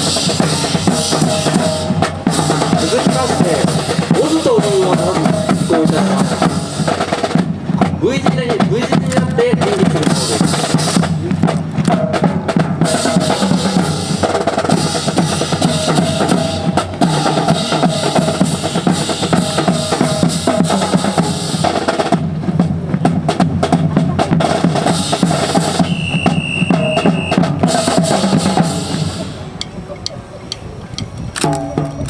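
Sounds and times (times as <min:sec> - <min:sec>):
marching snare and bass drums: 0:00.0 - 0:32.0.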